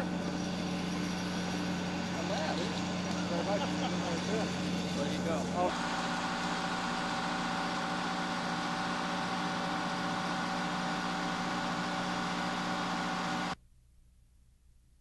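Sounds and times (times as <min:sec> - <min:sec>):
aircraft machinery drone: 0:00.0 - 0:13.6.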